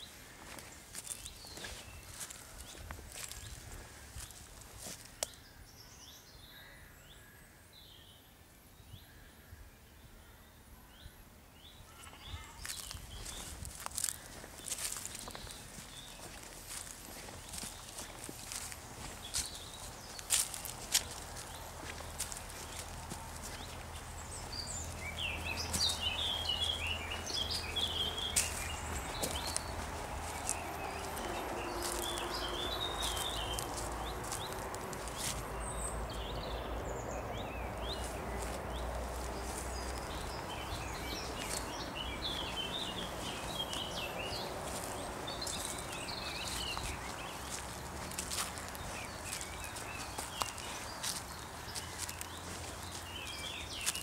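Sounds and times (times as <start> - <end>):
footsteps on path: 0.0 - 5.4, 12.3 - 54.0
songbirds chirping: 0.0 - 54.0
steady outdoor hiss: 0.0 - 54.0.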